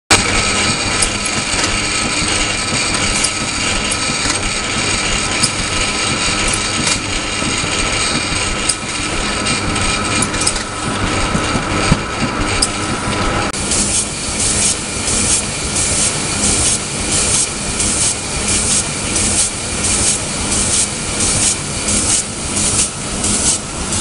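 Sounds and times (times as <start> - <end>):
machine din with whine: 0.1 - 24.0.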